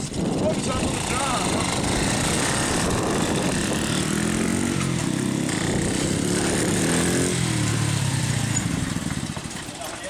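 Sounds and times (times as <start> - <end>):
mini motorcycles riding past: 0.1 - 10.0.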